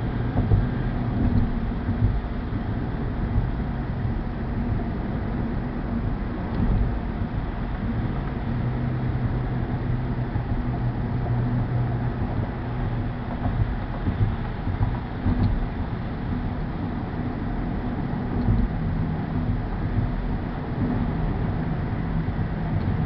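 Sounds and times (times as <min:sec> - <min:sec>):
constant low hum: 0:00.0 - 0:23.0
tyre and road noise: 0:00.0 - 0:23.0.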